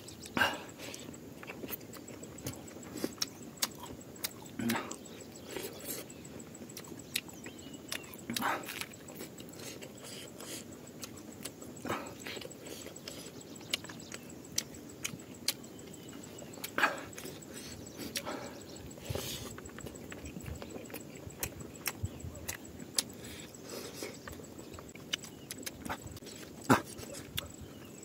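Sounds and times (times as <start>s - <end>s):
man chewing and lip-smacking: 0.0s - 28.0s
mouth clicks: 0.2s - 28.0s.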